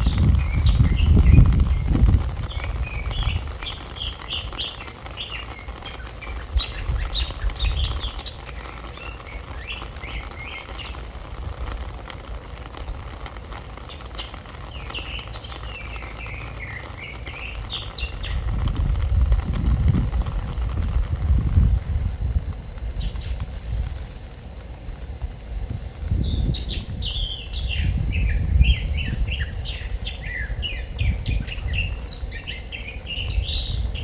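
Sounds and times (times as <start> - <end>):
songbirds chirping: 0.0 - 21.2, 22.0 - 34.0
wind rumble on microphone: 0.0 - 34.0.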